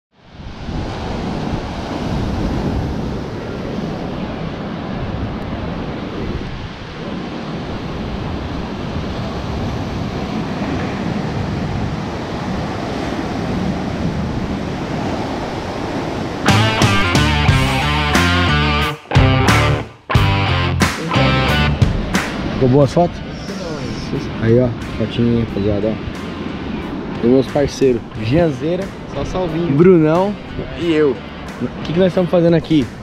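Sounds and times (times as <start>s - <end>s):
ocean surf breaking over rocks: 0.2s - 17.4s, 20.9s - 33.0s.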